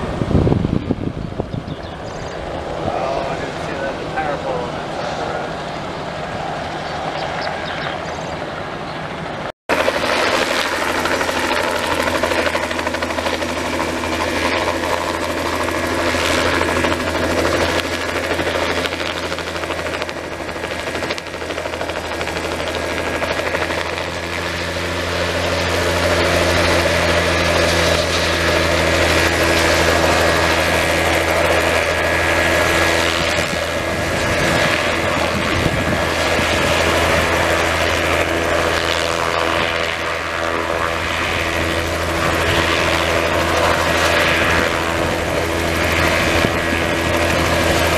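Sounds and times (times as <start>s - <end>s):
helicopter rotor running: 0.0s - 47.9s.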